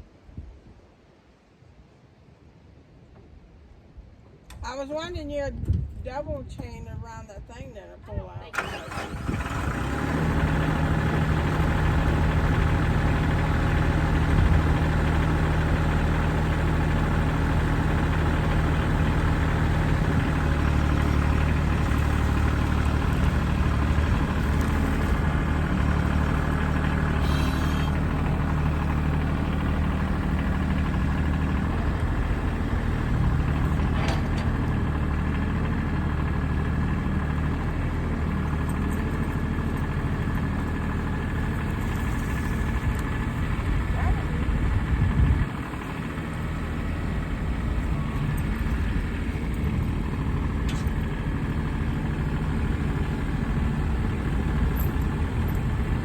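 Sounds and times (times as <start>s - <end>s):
tractor engine idling: 8.4s - 56.0s.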